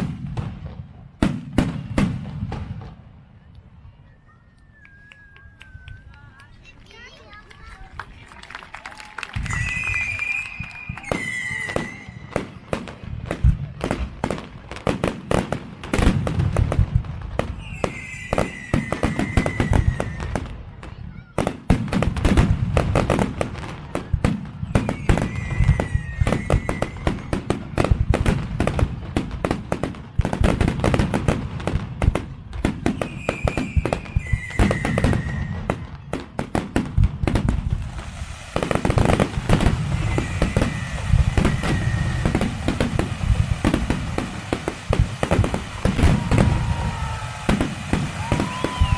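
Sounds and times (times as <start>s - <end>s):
fireworks bangs and crackling: 0.0s - 3.5s, 5.1s - 48.9s.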